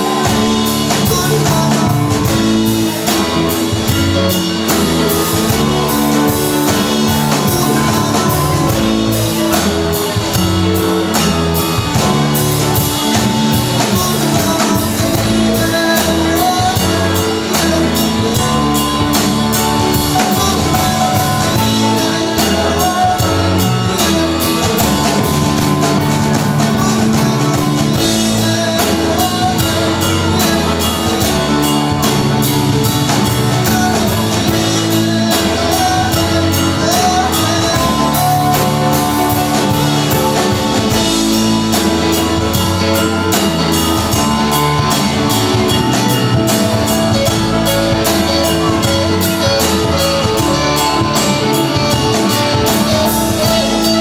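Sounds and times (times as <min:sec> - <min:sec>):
bass: 0:00.0 - 0:54.0
drum kit: 0:00.0 - 0:54.0
electric guitar: 0:00.0 - 0:54.0
keyboards: 0:00.0 - 0:54.0.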